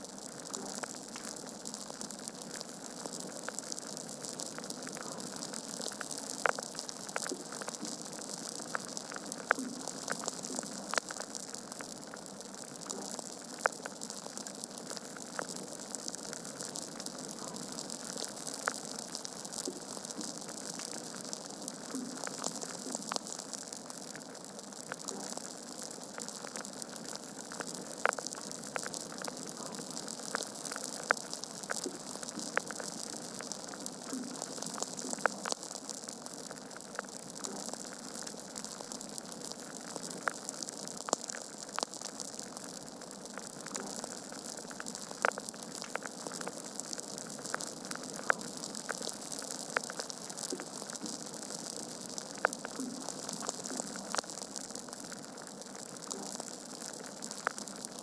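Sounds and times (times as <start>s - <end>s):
wood fire crackling and popping: 0.1s - 58.0s.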